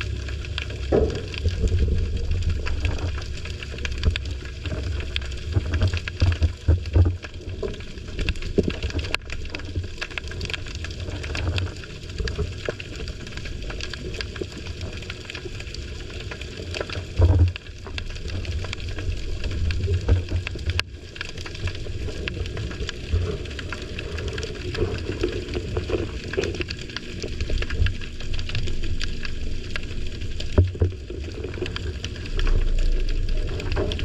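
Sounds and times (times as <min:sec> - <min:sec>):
crackle of small clicks: 0:00.0 - 0:34.0
underwater rumble of moving water: 0:00.0 - 0:34.0.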